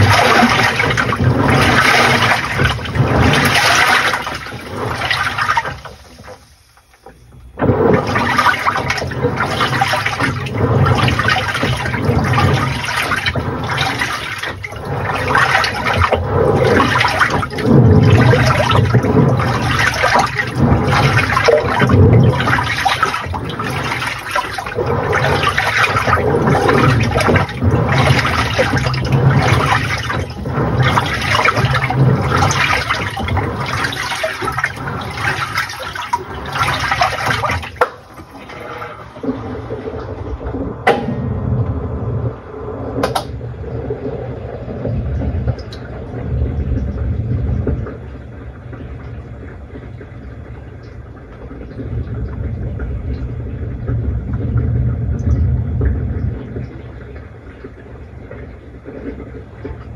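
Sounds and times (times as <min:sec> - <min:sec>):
washing machine water churning: 0:00.0 - 0:59.9.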